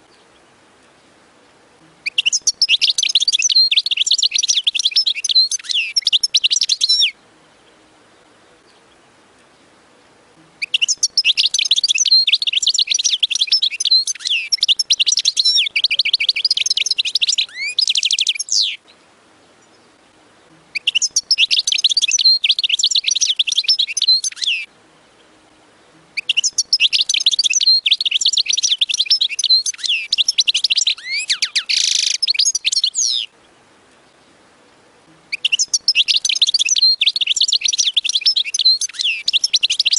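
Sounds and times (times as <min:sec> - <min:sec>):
finch twittering song: 0:00.0 - 0:34.4, 0:35.2 - 0:39.9.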